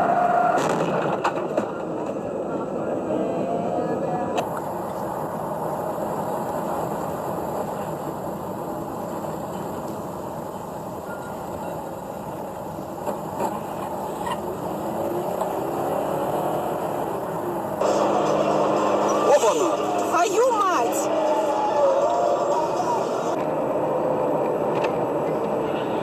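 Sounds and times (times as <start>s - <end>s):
car road and engine noise: 4.3s - 26.0s.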